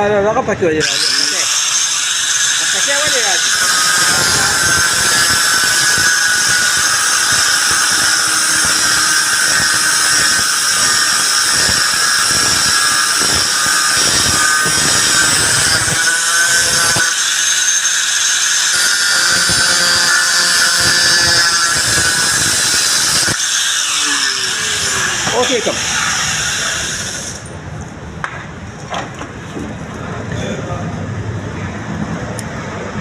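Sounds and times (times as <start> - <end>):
grinder whining against metal: 0.8 - 27.6.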